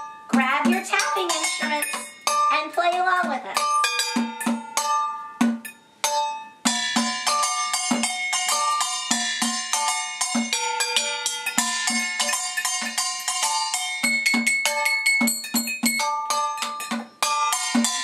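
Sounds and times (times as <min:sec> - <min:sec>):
metal bowls tapped and ringing: 0:03.6 - 0:18.0.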